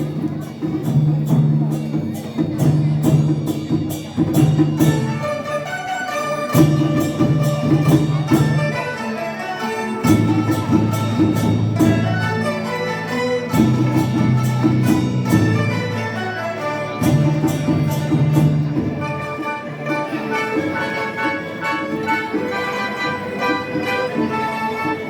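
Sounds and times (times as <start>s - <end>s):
light percussive beat: 0.0s - 25.0s
traditional orchestra melody: 0.0s - 25.0s.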